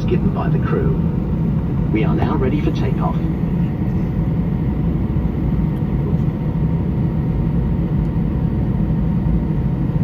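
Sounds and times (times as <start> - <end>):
aircraft engines rumbling: 0.0 - 10.0.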